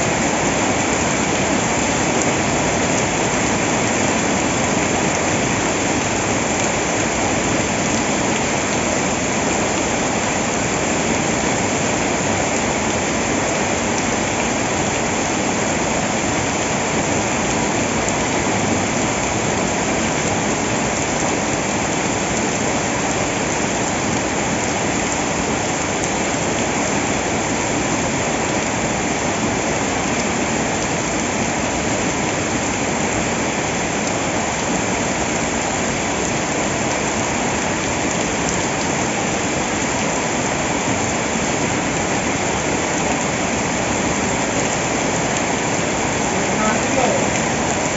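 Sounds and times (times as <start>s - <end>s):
water rushing: 0.0s - 47.9s.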